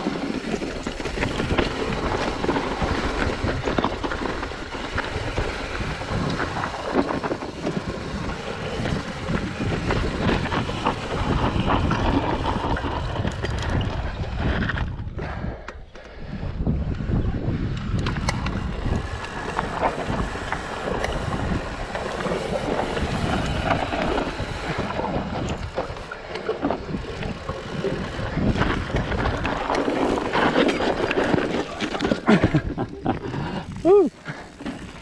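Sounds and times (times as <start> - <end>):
wind on microphone: 0.0 - 34.2
bike rattling over bumps: 0.0 - 35.0.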